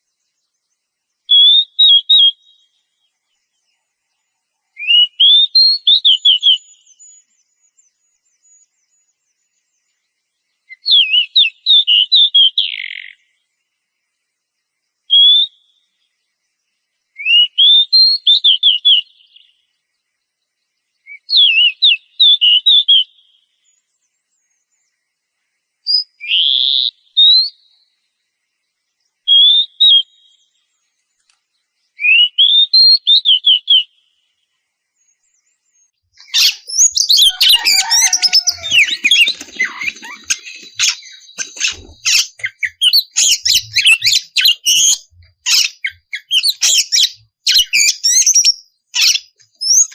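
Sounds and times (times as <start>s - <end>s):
bird singing whistled notes: 0.0s - 13.6s, 14.4s - 25.0s, 25.8s - 49.9s.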